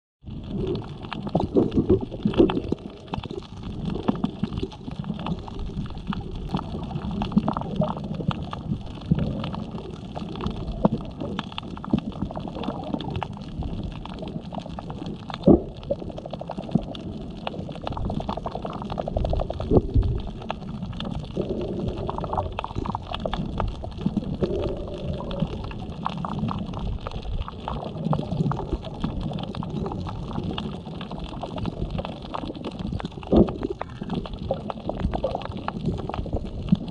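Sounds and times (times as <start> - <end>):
water gurgling underwater: 0.2 - 36.9
fine crackling clicks: 0.4 - 36.9.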